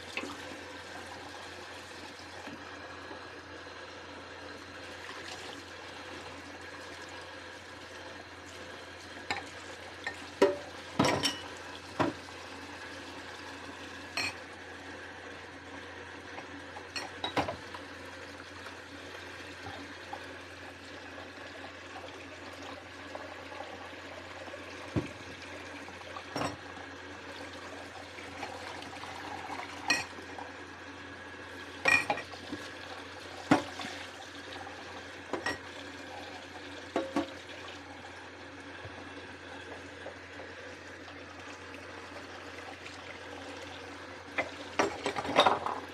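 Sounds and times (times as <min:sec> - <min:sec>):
running water: 0:00.0 - 0:45.9.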